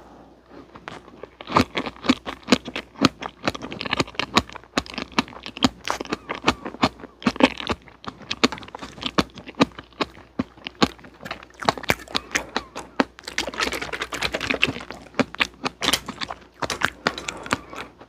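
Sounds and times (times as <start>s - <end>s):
mouth clicks chewing: 0.5s - 18.0s.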